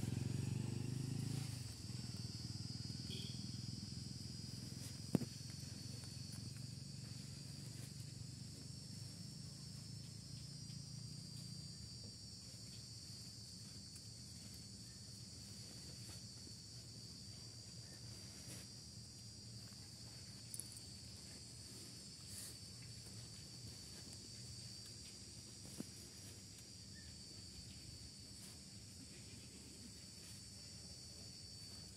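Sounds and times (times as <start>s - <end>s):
high-pitched insect chorus: 0.0s - 31.9s.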